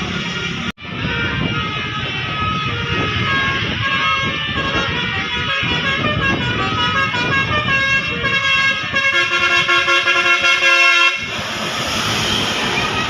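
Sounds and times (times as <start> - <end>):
bus horn playing a tune: 0.0 - 11.4, 12.8 - 13.0.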